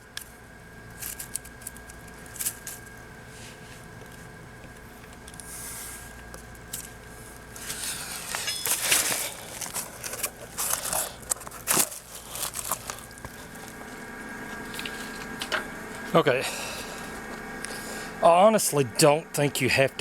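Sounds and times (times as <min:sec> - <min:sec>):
rustling and crinkling materials: 0:00.0 - 0:16.2
faint steady hum: 0:00.0 - 0:20.0.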